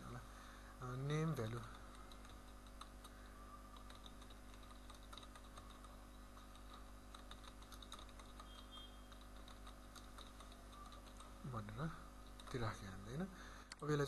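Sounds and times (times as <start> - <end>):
low electrical hum: 0.0 - 14.0
keyboard typing: 1.4 - 13.0.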